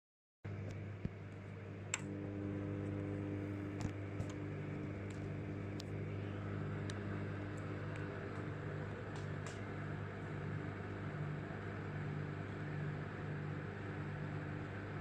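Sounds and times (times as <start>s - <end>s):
microwave oven humming: 0.5s - 15.0s.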